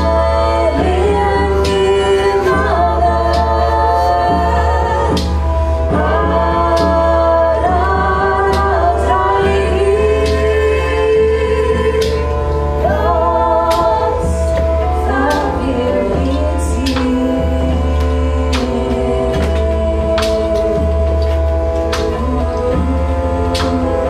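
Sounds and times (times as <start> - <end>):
low drone: 0.0 - 24.0
voices singing long notes: 0.0 - 24.0.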